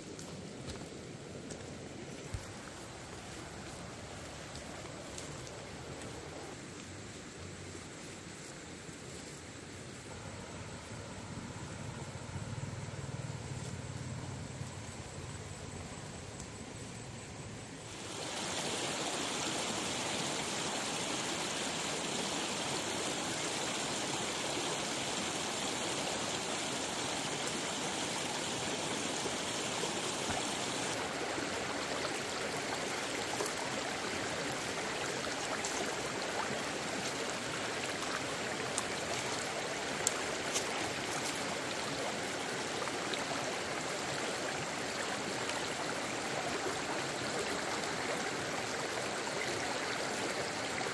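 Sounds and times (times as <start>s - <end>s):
stream water rushing: 0.0s - 50.9s.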